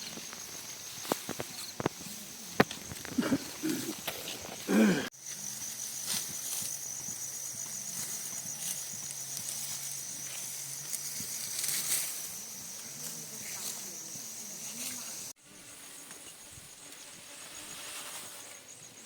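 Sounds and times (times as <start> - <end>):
high insect trill: 0.0 - 19.0.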